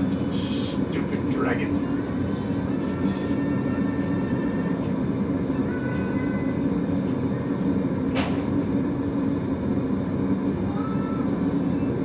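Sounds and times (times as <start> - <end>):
forge blower air rush: 0.0 - 12.0.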